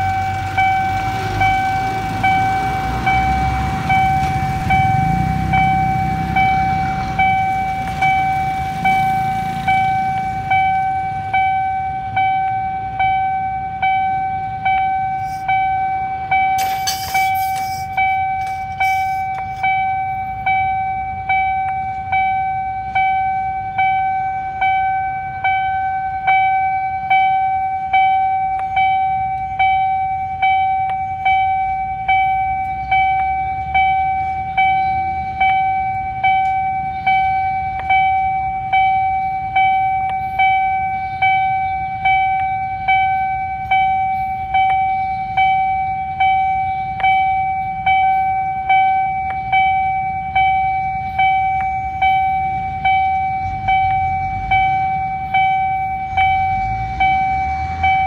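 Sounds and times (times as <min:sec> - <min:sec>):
level crossing bell ringing: 0:00.0 - 0:58.0.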